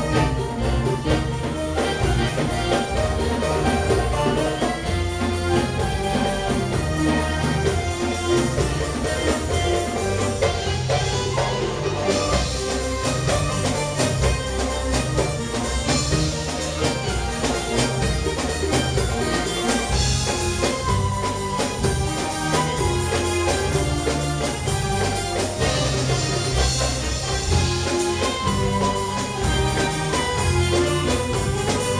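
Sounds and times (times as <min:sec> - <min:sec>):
belly-dance band music: 0:00.0 - 0:31.9
quick steady drum beat: 0:00.0 - 0:31.9.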